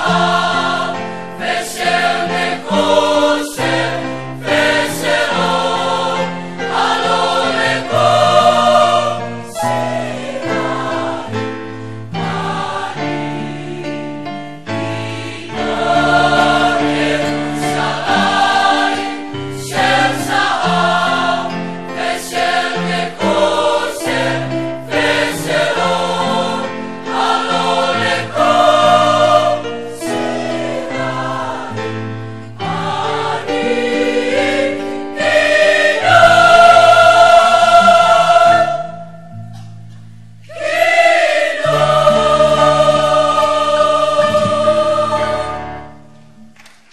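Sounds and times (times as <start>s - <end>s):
choir singing in harmony: 0.0s - 39.6s, 40.4s - 46.3s.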